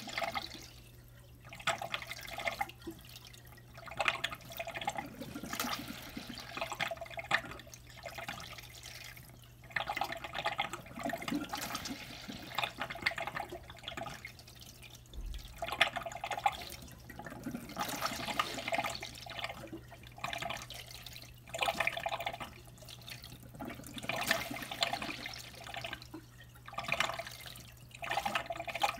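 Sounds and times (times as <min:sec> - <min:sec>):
water trickling and splashing: 0:00.0 - 0:28.9.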